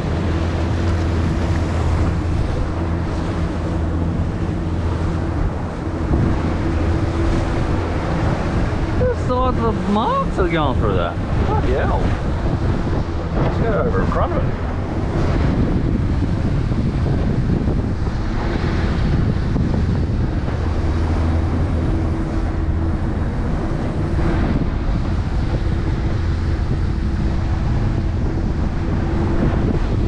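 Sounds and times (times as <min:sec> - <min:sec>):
boat engine hum: 0:00.0 - 0:30.0
water rushing along hull: 0:00.0 - 0:30.0
wind noise on microphone: 0:00.0 - 0:30.0.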